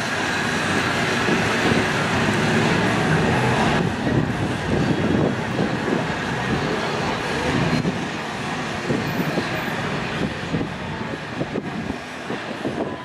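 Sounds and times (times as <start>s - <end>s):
tram rumbling on track: 0.0s - 13.0s.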